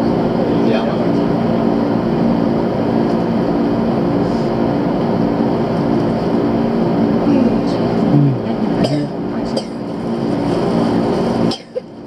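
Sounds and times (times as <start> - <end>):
steady low hum: 0.0 - 12.0
train wheels rumbling on rails: 0.0 - 12.0.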